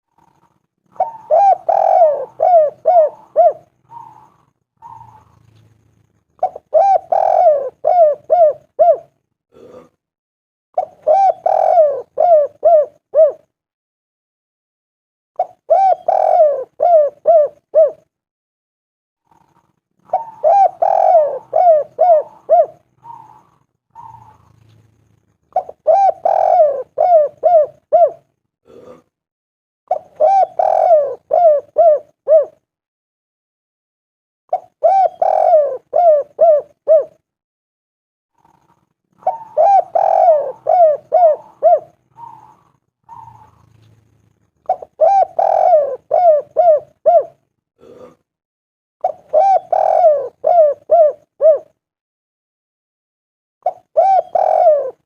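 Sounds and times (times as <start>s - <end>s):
dove cooing: 0.1s - 9.9s, 10.8s - 13.6s, 15.4s - 18.1s, 19.2s - 29.0s, 29.9s - 32.7s, 34.5s - 37.3s, 38.4s - 48.2s, 49.0s - 51.8s, 53.6s - 55.0s.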